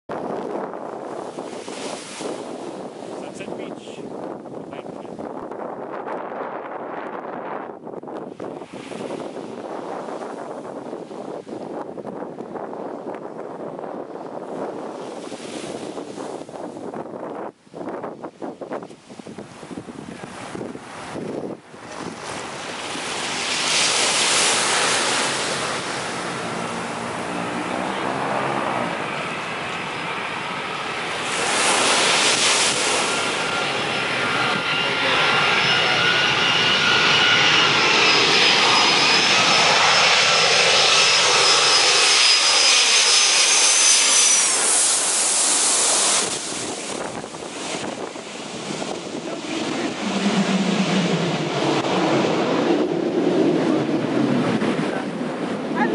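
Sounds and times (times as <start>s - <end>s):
jet engines roaring overhead: 0.1s - 55.9s.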